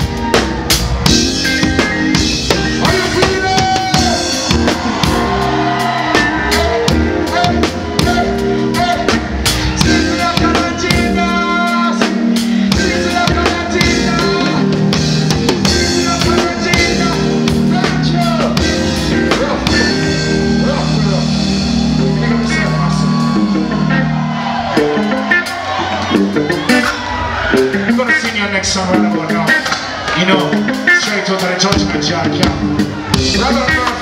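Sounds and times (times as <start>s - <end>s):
reggae band playing: 0.0s - 34.0s.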